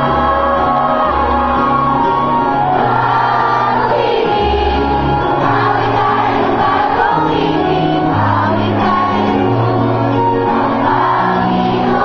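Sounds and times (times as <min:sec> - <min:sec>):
choir singing a hymn: 0:00.0 - 0:12.0
instrumental accompaniment: 0:00.0 - 0:12.0.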